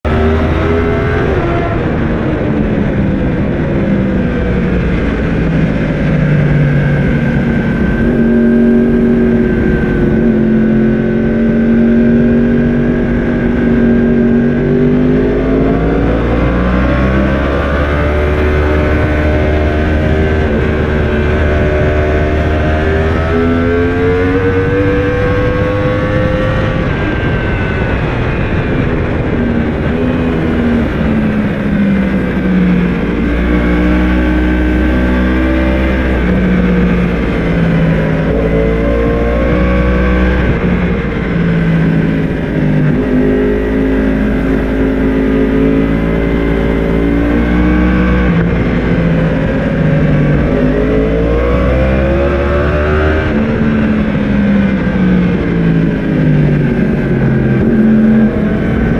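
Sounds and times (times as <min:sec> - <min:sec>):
low rush: 0:00.0 - 0:58.9
motorcycle engine revving: 0:00.0 - 0:58.9.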